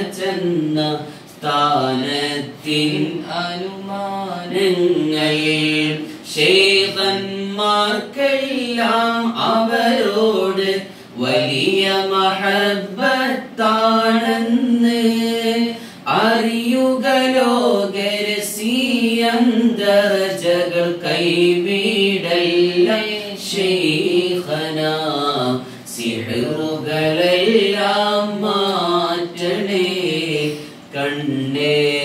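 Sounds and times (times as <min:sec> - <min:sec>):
man chanting unaccompanied: 0:00.0 - 0:32.0.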